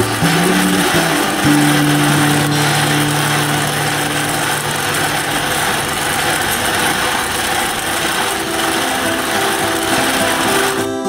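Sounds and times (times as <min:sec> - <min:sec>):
grain mill grinding: 0:00.0 - 0:11.0.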